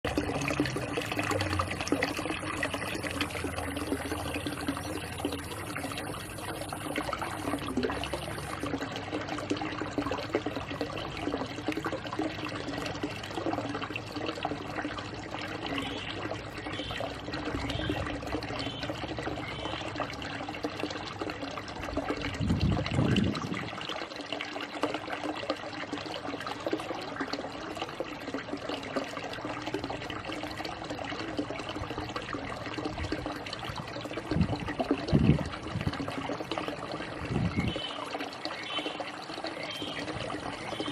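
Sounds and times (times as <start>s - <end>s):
water splashing into a pond: 0.0s - 40.9s.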